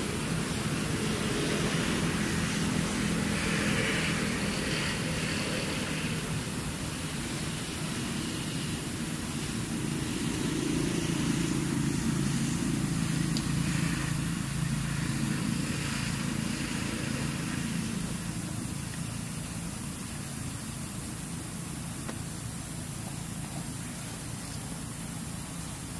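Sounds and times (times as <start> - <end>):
faint hiss: 0.0 - 25.9
low engine hum: 0.0 - 25.9.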